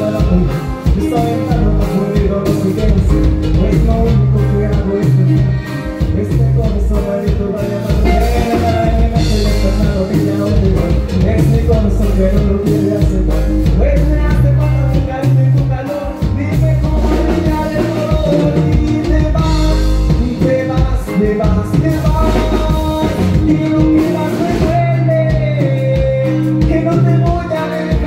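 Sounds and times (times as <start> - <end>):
bass line: 0.0 - 28.0
drums: 0.0 - 28.0
live band music: 0.0 - 28.0
person singing melody: 0.0 - 28.0.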